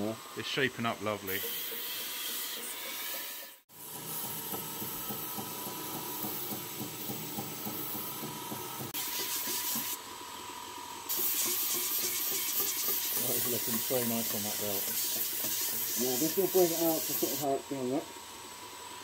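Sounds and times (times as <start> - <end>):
belt grinder hissing: 0.0 - 10.0, 11.1 - 17.6.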